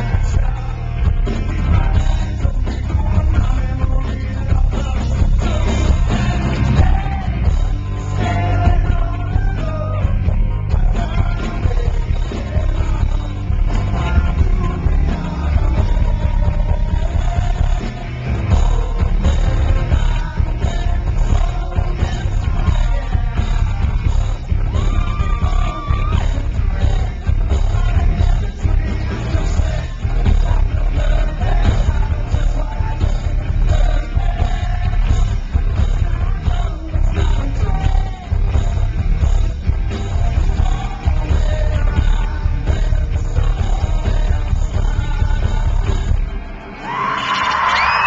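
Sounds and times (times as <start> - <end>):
drums: 0.0 - 48.0
heavy bass: 0.0 - 48.0
man singing lead vocals: 0.0 - 48.0.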